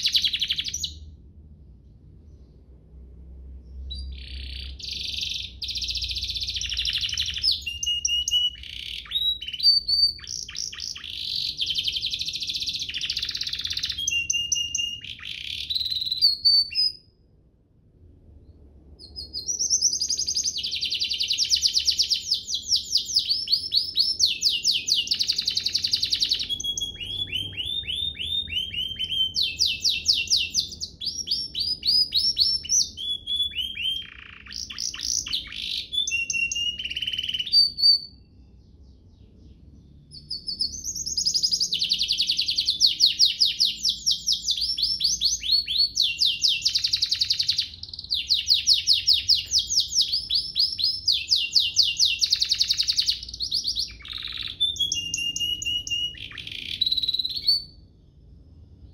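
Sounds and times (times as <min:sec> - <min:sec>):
canary singing trills: 0:00.0 - 0:01.2, 0:03.5 - 0:17.2, 0:18.5 - 0:58.2.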